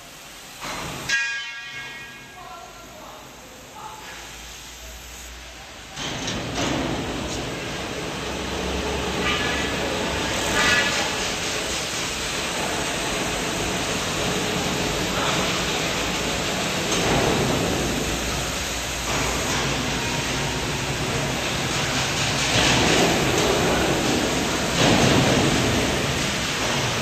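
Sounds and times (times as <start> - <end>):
robotic welding machinery hum: 5.1 - 27.0.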